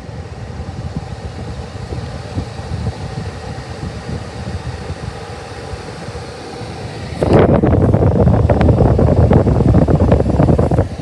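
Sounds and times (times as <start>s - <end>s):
climate control fan blowing: 0.0s - 11.0s
low rumble inside car cabin: 0.0s - 11.0s.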